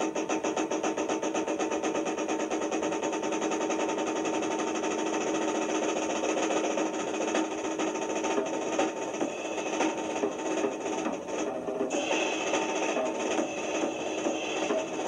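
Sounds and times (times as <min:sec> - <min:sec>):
drum kit rapid roll: 0:00.0 - 0:15.0.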